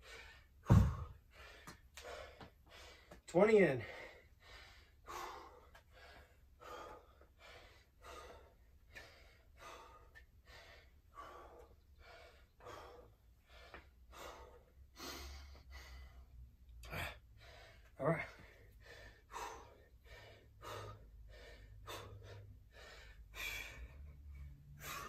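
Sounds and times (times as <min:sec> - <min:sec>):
man panting: 0:00.0 - 0:25.0.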